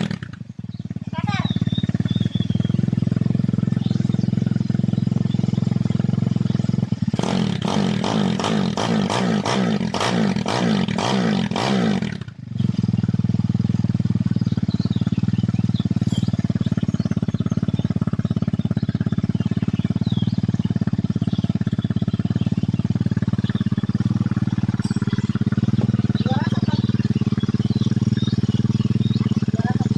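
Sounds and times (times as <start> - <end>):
motorcycle engine revving and idling: 0.0 - 29.9.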